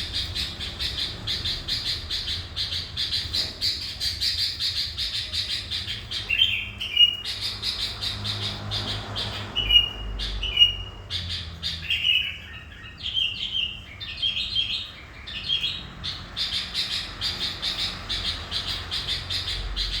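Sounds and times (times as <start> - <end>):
bird chirping song: 0.0 - 20.0.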